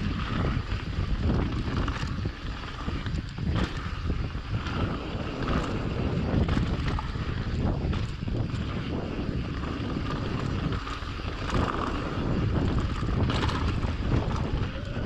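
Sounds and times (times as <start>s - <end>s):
bike clicks and rattles: 0.0s - 15.0s
tyres rumbling on rough trail: 0.0s - 15.0s
wind buffeting microphone: 0.0s - 15.0s.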